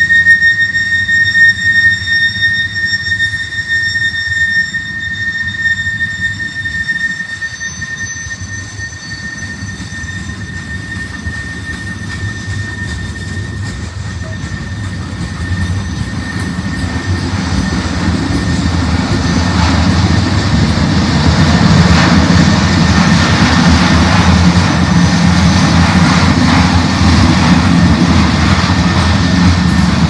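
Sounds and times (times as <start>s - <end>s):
freight train rumble: 0.0s - 30.0s
high-pitched wheel squeal: 0.0s - 30.0s.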